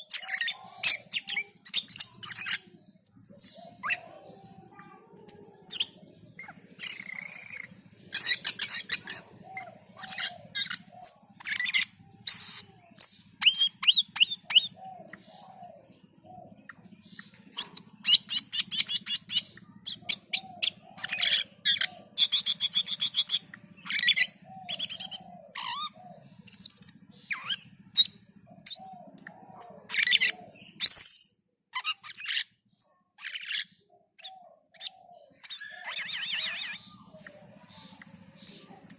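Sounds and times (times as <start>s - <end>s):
chattering bird trills: 0.0s - 38.9s.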